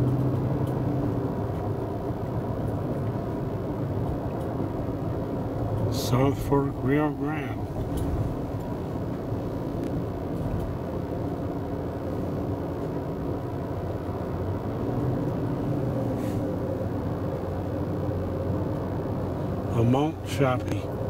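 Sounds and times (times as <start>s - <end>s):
car cabin road and engine hum: 0.0s - 21.0s.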